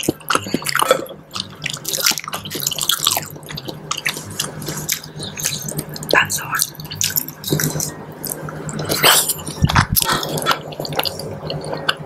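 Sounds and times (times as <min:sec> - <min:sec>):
people chewing wet food: 0:00.0 - 0:12.0.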